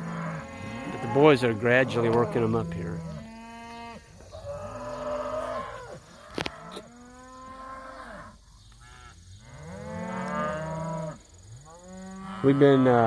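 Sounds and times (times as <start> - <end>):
cattle mooing: 0.0 - 13.0.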